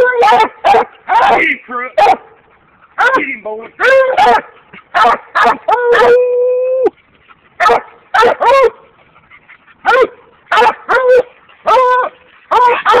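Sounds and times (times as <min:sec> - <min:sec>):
dogs barking: 0:00.0 - 0:06.2, 0:07.6 - 0:13.0.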